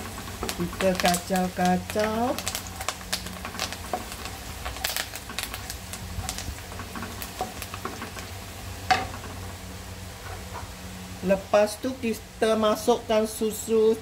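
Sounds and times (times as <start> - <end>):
light frying sizzle: 0.0 - 14.0.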